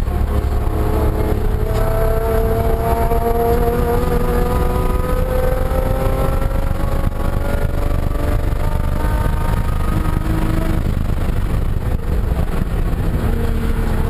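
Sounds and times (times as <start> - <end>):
race car engine accelerating: 0.0 - 14.0.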